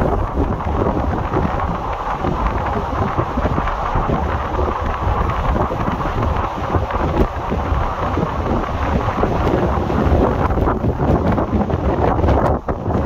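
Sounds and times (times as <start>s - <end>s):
train running rumble: 0.0s - 13.0s
wind buffeting microphone: 0.0s - 13.0s.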